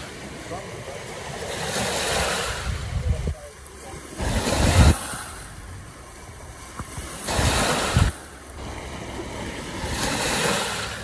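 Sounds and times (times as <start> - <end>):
low hiss of water: 0.0 - 11.0
small waves washing on shore: 0.0 - 11.0.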